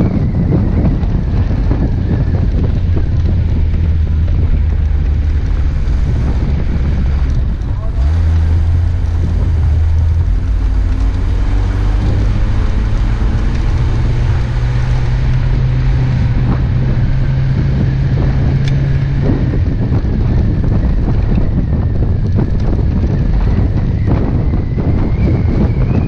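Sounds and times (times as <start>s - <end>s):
vehicle engine running: 0.0s - 26.0s
wind noise on microphone: 0.0s - 26.0s.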